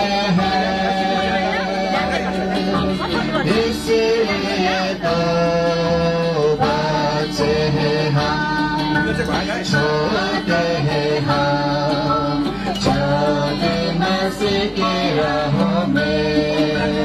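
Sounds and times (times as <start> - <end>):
musical accompaniment: 0.0 - 17.0
voices singing children's song: 0.0 - 17.0.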